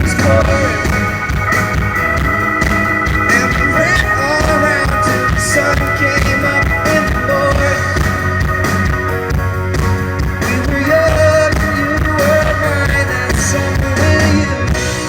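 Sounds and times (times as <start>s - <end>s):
live pop-rock band playing: 0.0s - 15.0s
steady drum beat: 0.0s - 15.0s.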